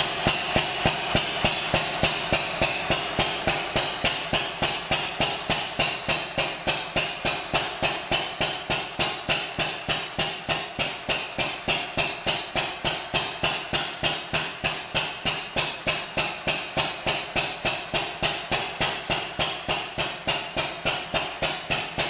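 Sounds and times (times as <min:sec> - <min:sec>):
stationary engine running: 0:00.0 - 0:22.0.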